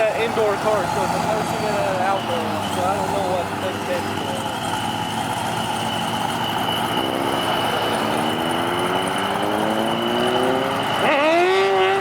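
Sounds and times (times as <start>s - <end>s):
car engine accelerating: 0.0s - 12.0s
high whine: 0.0s - 12.0s.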